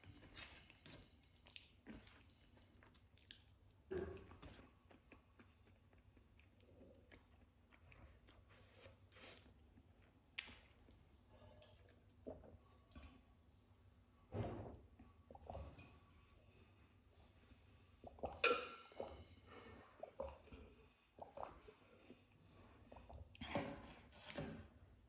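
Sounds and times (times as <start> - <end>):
soft chewing mouth sounds: 0.0 - 13.6, 15.0 - 23.8.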